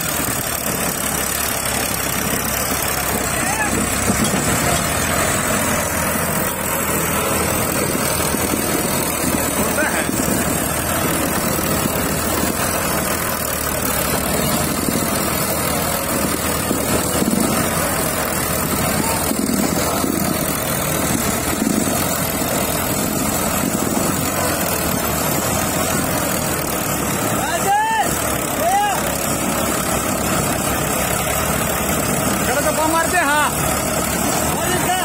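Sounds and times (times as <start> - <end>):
diesel tractor engines running: 0.0 - 35.0.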